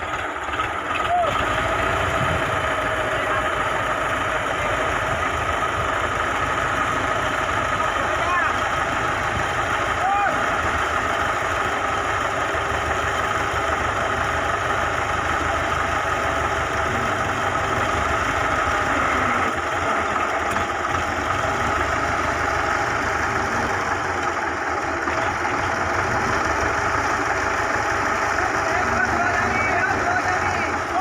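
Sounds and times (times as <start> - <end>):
tractor diesel engine idling: 0.0 - 31.0.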